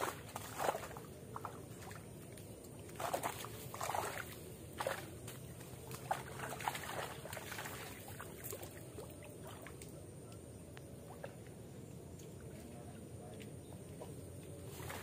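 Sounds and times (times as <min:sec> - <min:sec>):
water splashing and sloshing: 0:00.0 - 0:10.3, 0:11.0 - 0:15.0.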